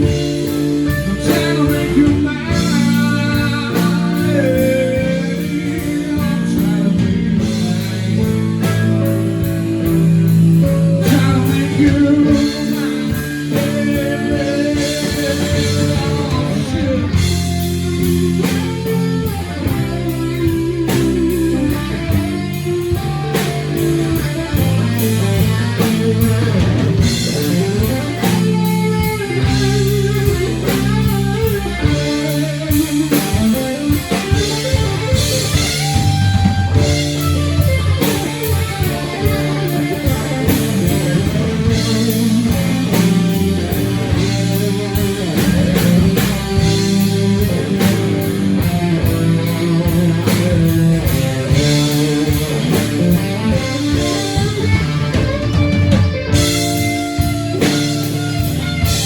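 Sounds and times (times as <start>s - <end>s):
drum kit beat: 0.0s - 59.0s
guitars playing: 0.0s - 59.0s.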